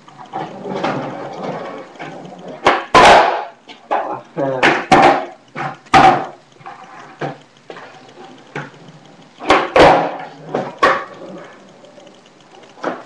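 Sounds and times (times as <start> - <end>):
skateboard wheels rolling: 0.0 - 4.0, 4.6 - 11.9
skateboard clacking on concrete: 0.1 - 12.0, 12.8 - 13.0.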